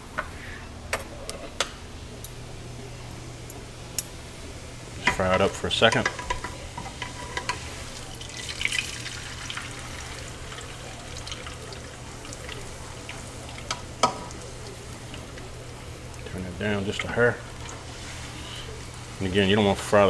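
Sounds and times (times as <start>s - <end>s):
tortilla sizzling in hot grease: 3.6s - 20.0s.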